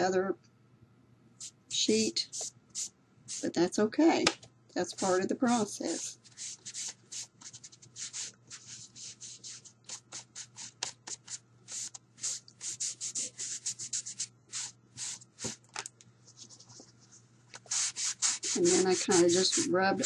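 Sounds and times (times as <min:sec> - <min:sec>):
soft pad rubbing over paper: 0:01.4 - 0:03.6, 0:04.8 - 0:15.6, 0:16.2 - 0:20.0.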